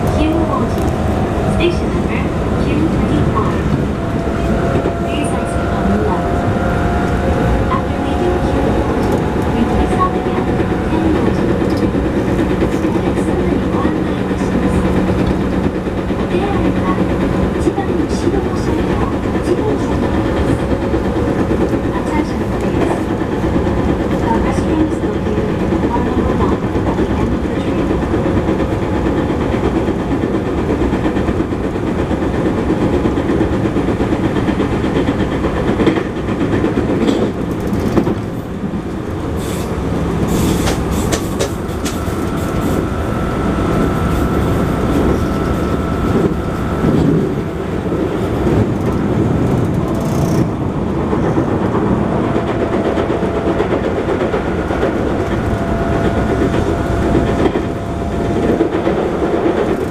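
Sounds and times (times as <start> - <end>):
train wheels rumbling and clacking: 0.0 - 59.9.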